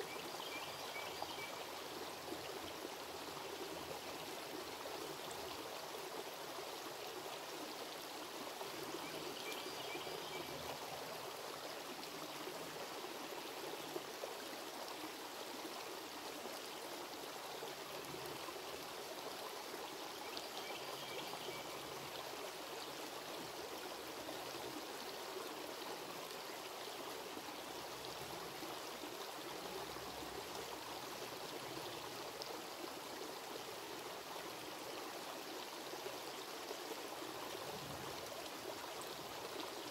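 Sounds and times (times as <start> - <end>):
creek trickling over rocks: 0.0 - 39.9.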